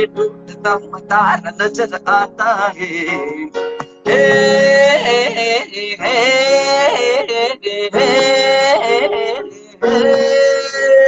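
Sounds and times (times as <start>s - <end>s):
man singing long notes: 0.0s - 11.0s.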